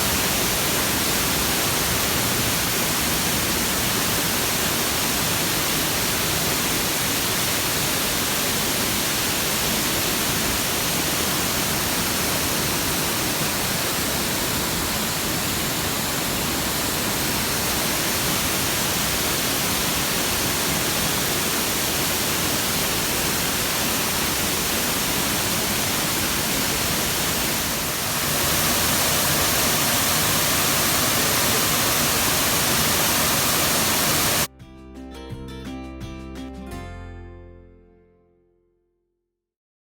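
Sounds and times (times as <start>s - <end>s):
waterfall rushing: 0.0s - 34.5s.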